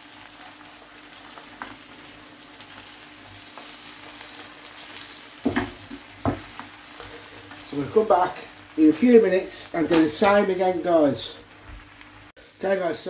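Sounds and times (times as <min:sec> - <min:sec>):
cabbage sizzling in a pan: 0:00.0 - 0:13.0.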